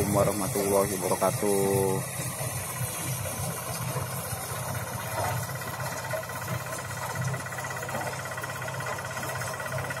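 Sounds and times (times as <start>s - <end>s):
corn-shelling machine running: 0.0s - 10.0s.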